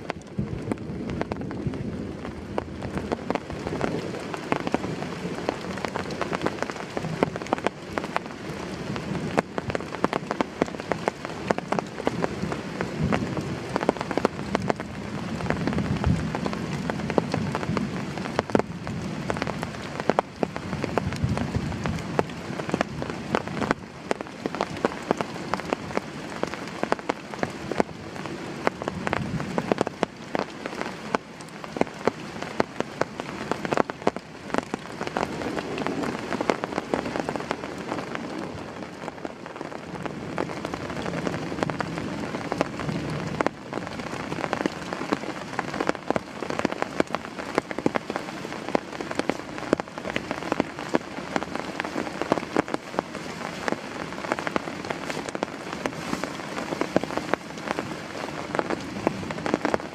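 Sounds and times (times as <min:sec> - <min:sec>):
heavy rain falling: 0:00.0 - 0:59.9
raindrops tapping on surface: 0:00.0 - 0:59.9.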